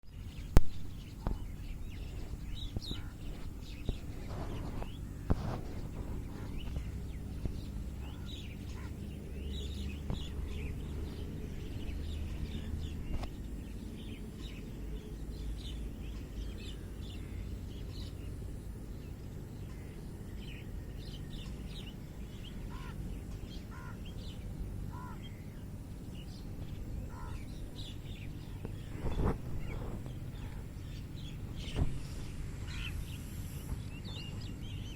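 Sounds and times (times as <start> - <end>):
songbirds chirping: 0.0 - 34.9
low background rumble: 0.1 - 34.9.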